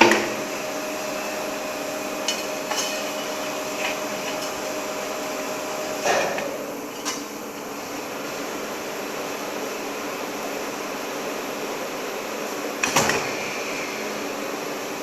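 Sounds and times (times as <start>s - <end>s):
welding machine humming and hissing: 0.0s - 15.0s.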